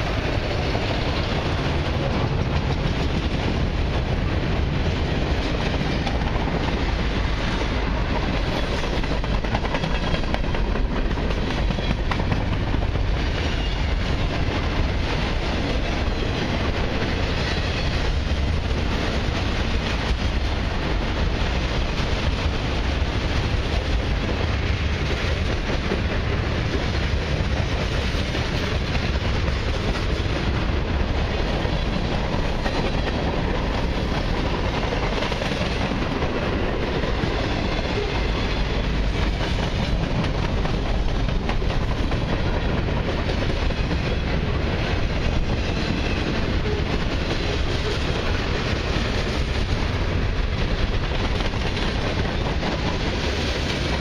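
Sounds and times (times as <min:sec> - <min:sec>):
freight train wheels rumbling on rail: 0:00.0 - 0:54.0
wheels clicking over rail joints: 0:00.0 - 0:54.0.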